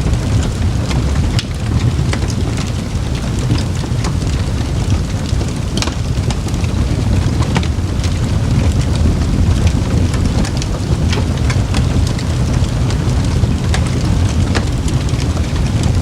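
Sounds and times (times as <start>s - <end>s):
campfire crackling and popping: 0.0s - 16.0s
fire low roar: 0.0s - 16.0s.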